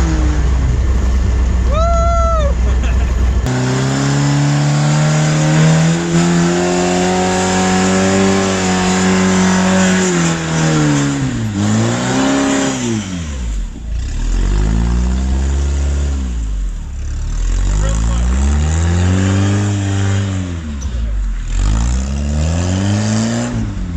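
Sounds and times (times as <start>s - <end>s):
buggy engine revving: 0.0s - 23.9s.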